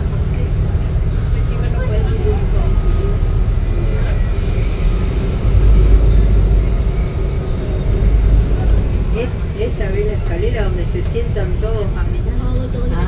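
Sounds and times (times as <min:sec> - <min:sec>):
heavy vehicle engine rumble: 0:00.0 - 0:13.0
traffic: 0:00.0 - 0:13.0.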